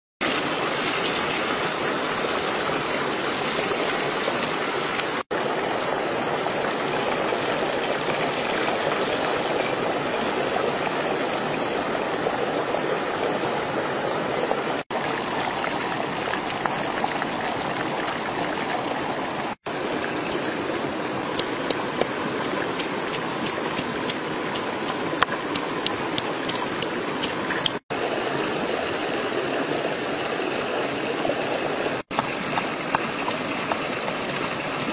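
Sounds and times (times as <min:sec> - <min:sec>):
stream water running: 0:00.2 - 0:34.9.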